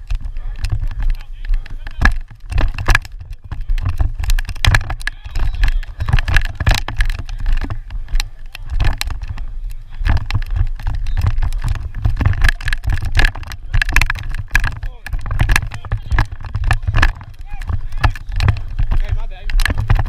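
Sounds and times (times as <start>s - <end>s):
sharp knocks and clicks: 0.0s - 20.0s
wind buffeting microphone: 0.0s - 20.0s.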